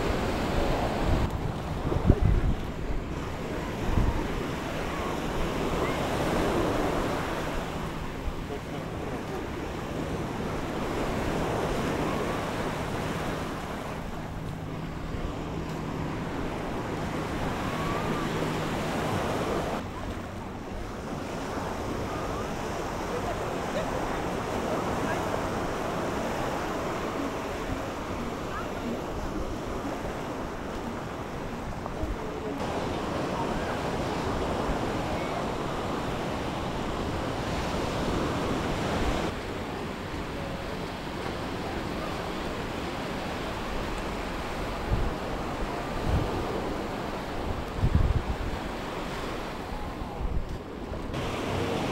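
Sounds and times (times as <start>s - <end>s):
small waves washing on shore: 0.0s - 51.9s
wind on microphone: 0.0s - 51.9s.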